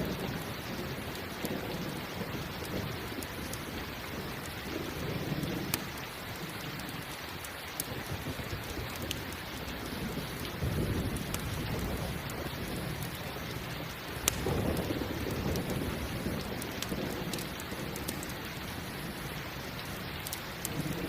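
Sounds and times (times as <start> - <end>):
crackling campfire: 0.0 - 21.0
steady rain: 0.0 - 21.0.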